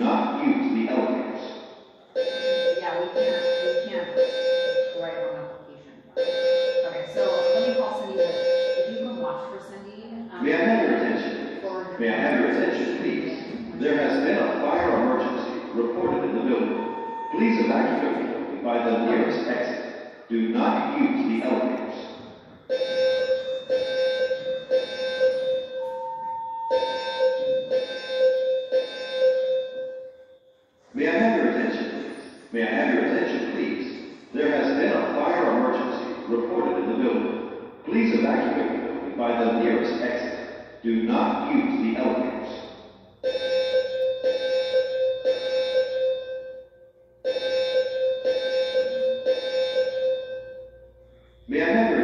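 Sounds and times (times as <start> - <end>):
fire alarm pulsing: 0.0 - 52.0.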